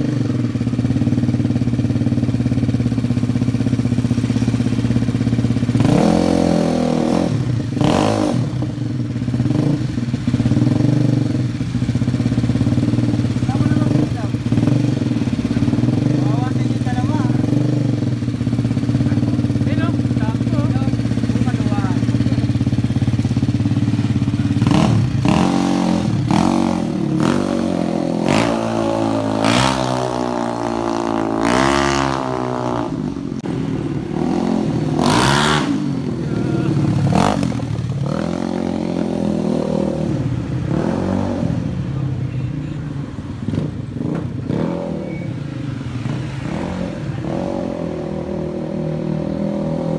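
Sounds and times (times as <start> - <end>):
scooter engine revving: 0.0 - 49.9.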